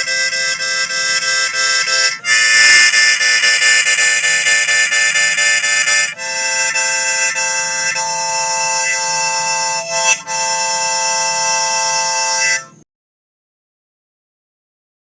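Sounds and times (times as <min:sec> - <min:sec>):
sustained music chords: 0:00.0 - 0:12.8.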